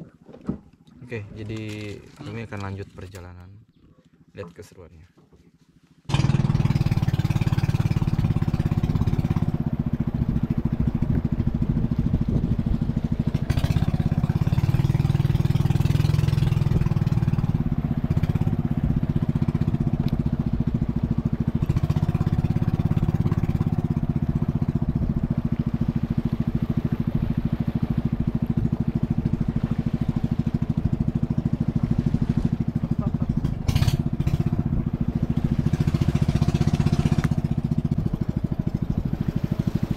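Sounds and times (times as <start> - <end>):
small boat engine running: 0.0 - 39.9.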